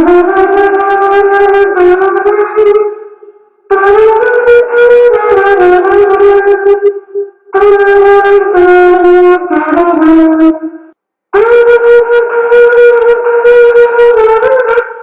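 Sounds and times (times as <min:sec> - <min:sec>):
buzzy mouth-made horn tune: 0:00.0 - 0:15.0.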